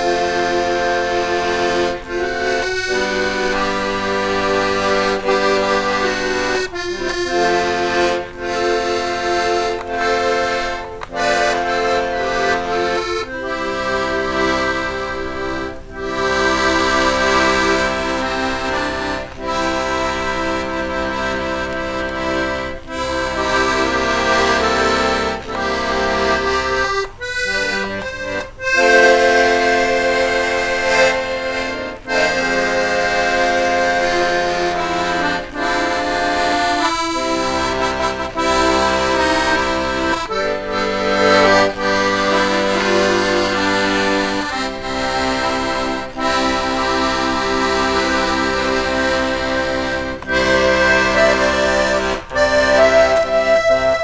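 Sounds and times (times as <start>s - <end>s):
accordion music: 0.0s - 54.0s.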